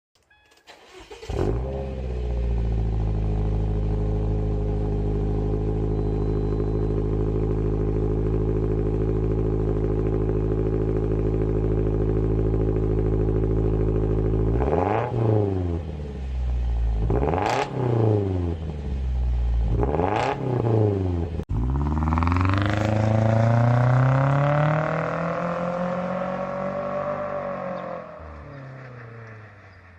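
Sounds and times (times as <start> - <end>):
car engine idling and revving: 0.7 - 29.9.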